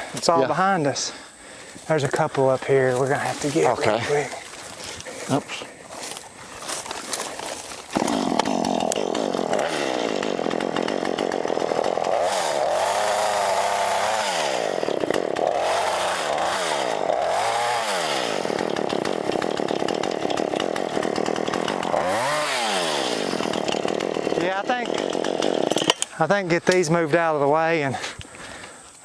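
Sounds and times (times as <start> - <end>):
chainsaw cutting brush: 2.0 - 27.0.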